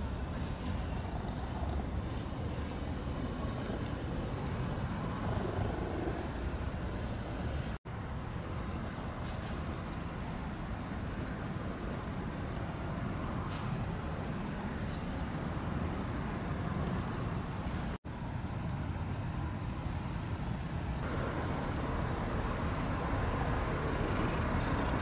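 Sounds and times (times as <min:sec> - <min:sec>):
low rumbling outdoor background: 0:00.0 - 0:25.0.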